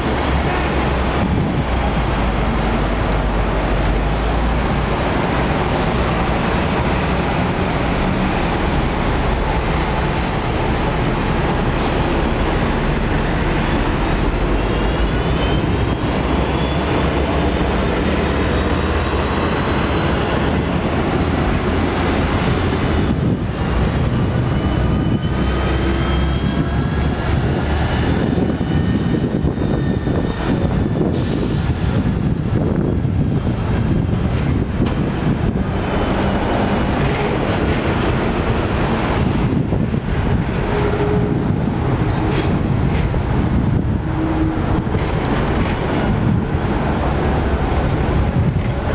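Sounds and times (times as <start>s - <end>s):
tram wheels rumbling on rails: 0.0s - 48.9s.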